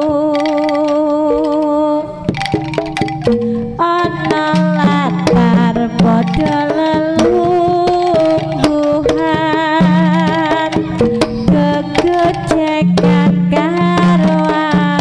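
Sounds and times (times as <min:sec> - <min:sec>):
person singing long wavering notes: 0:00.0 - 0:02.4, 0:03.6 - 0:15.0
gamelan ensemble: 0:00.0 - 0:15.0
kendang drum strokes: 0:01.3 - 0:15.0.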